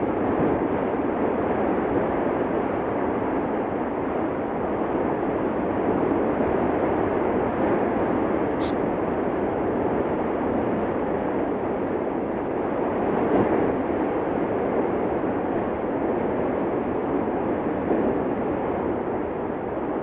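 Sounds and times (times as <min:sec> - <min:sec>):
volcano eruption roar: 0:00.0 - 0:20.0.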